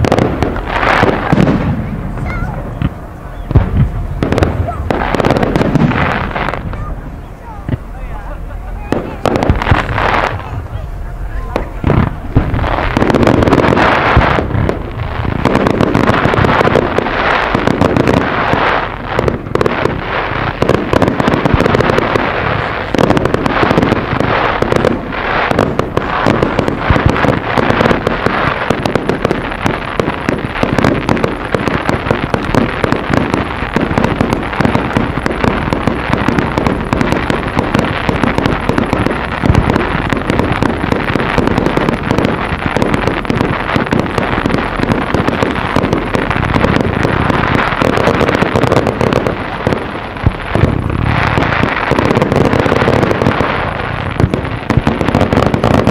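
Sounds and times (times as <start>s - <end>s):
fireworks launches and bursts: 0.0s - 55.9s
rapid crackling reports: 0.0s - 55.9s.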